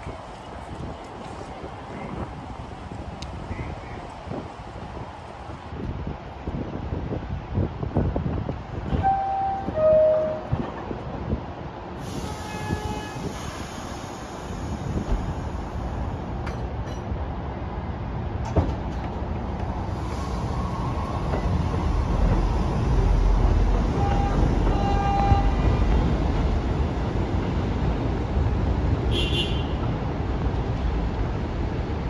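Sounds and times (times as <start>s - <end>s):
subway train rumble: 0.0s - 32.0s.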